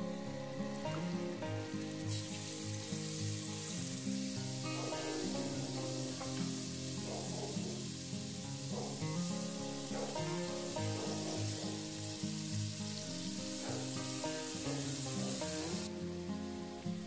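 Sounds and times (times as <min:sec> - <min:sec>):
food sizzling in pan: 0:00.0 - 0:17.0
light background music: 0:00.0 - 0:17.0.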